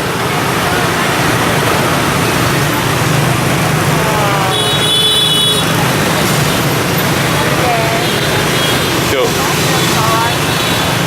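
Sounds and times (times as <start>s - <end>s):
dense motorbike traffic: 0.0s - 11.0s.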